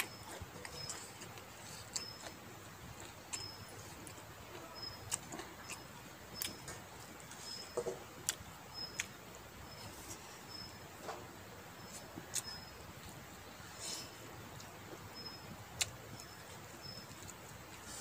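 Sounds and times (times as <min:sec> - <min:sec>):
wet chewing and smacking: 0:00.0 - 0:11.2, 0:11.8 - 0:13.6, 0:14.5 - 0:18.0.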